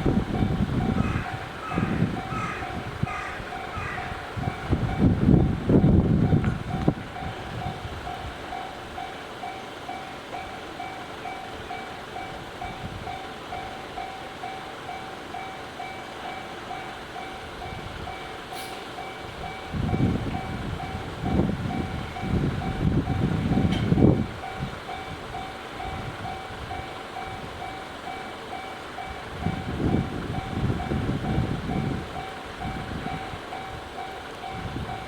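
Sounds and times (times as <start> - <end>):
passing train rumble: 0.0 - 35.0.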